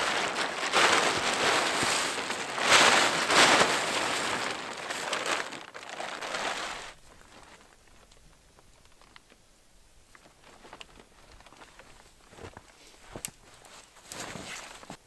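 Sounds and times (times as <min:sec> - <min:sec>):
plastic tarp crinkling and rustling: 0:00.0 - 0:09.4, 0:10.1 - 0:15.0.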